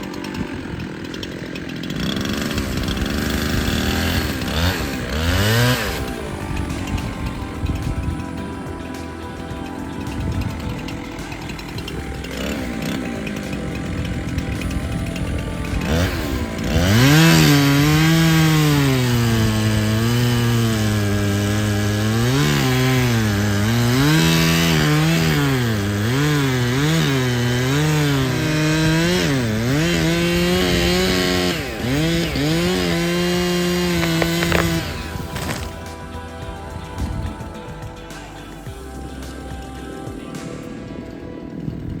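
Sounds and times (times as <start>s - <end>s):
chainsaw cutting into tree: 0.0s - 40.2s.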